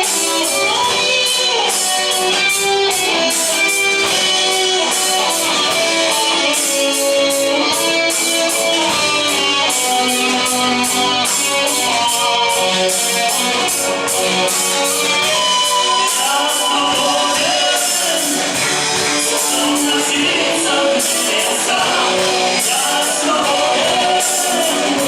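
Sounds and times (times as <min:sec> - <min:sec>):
electric guitar: 0:00.0 - 0:25.0
steady drum beat: 0:00.0 - 0:25.0.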